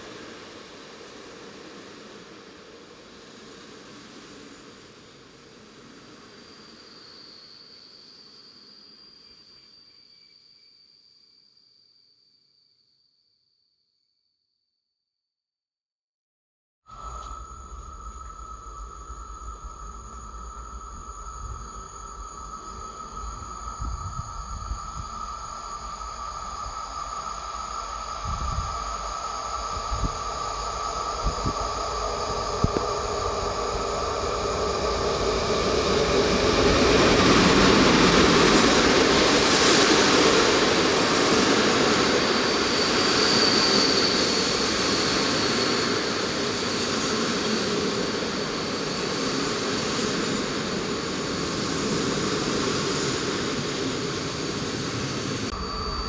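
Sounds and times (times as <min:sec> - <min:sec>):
train passing along platform: 0:00.0 - 0:07.8, 0:17.0 - 0:56.0.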